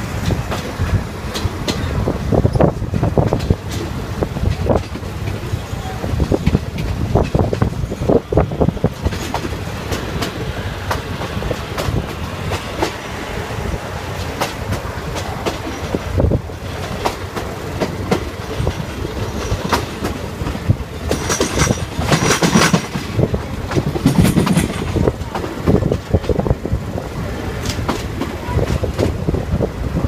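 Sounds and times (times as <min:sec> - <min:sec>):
train rumble from inside coach: 0:00.0 - 0:30.0
wheels clacking over rail joints: 0:00.0 - 0:30.0.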